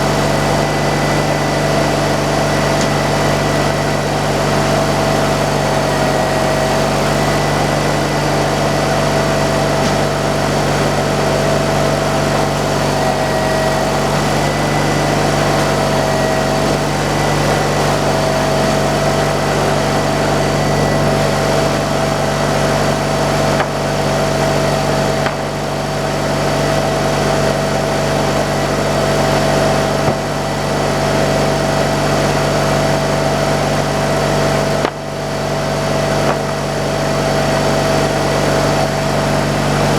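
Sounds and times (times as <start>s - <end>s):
constant whine: 0.0s - 39.9s
sawmill engine running: 0.0s - 39.9s.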